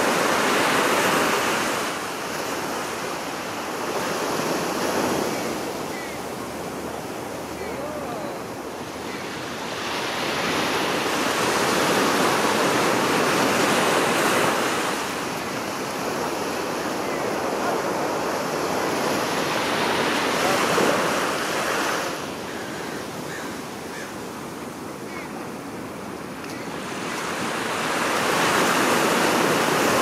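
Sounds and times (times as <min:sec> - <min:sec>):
sea surf on rocks: 0:00.0 - 0:30.0.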